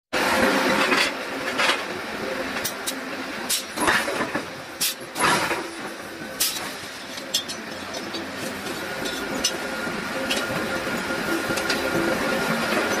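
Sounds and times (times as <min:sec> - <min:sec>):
machinery hum: 0:00.2 - 0:13.0.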